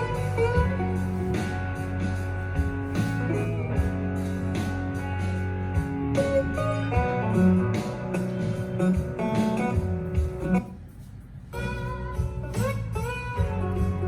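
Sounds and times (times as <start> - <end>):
pop song through speaker: 0.0 - 14.0.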